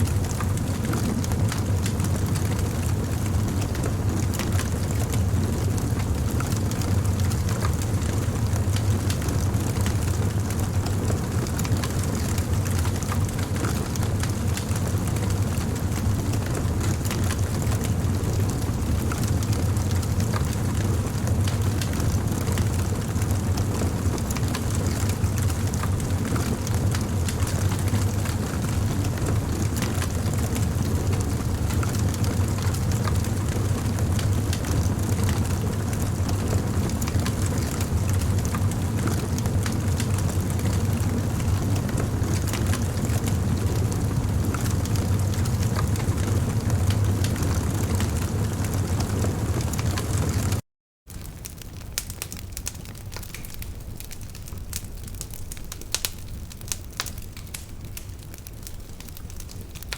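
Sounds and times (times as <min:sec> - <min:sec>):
campfire crackling: 0:00.1 - 0:59.9.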